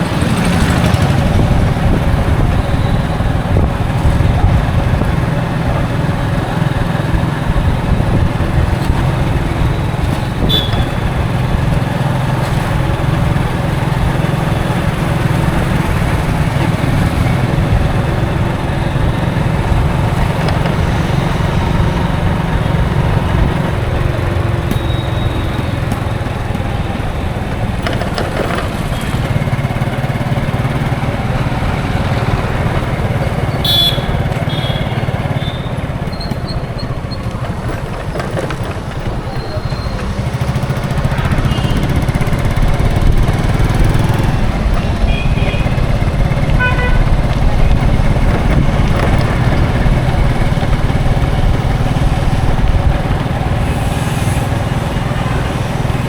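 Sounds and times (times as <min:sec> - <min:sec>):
bus engine and road noise: 0:00.0 - 0:56.0.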